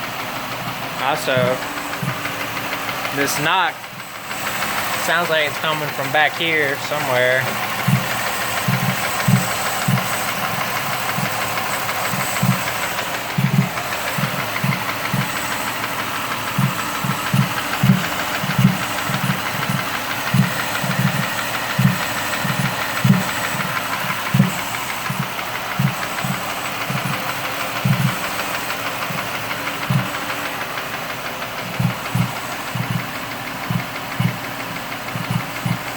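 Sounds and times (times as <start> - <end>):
car engine idling: 0.0 - 35.9
irregular low engine thumps: 0.0 - 35.9.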